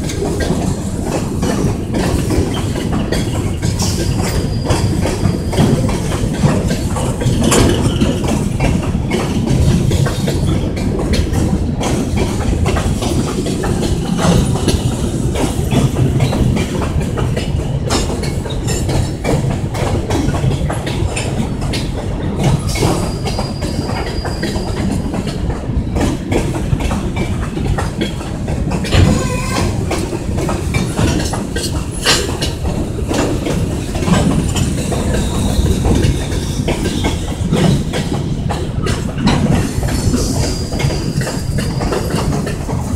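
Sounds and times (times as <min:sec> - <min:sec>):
freight train rumbling past: 0:00.0 - 0:42.9
wheels clicking over rail joints: 0:00.0 - 0:42.9.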